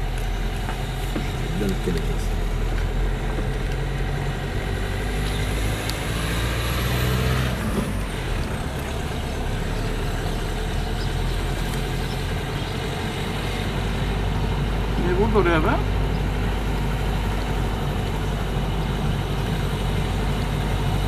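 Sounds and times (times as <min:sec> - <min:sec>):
car engine running: 0:00.0 - 0:21.0
tyres on the road: 0:00.0 - 0:21.0.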